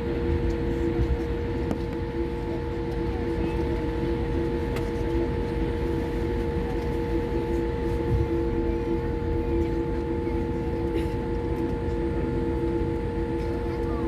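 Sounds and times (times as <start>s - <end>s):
jet cabin engine drone: 0.0s - 14.0s.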